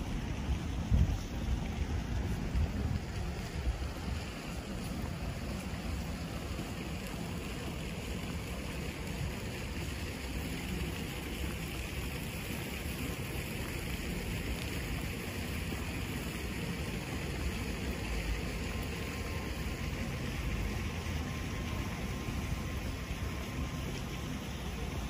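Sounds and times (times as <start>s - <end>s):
low street rumble: 0.0s - 25.0s.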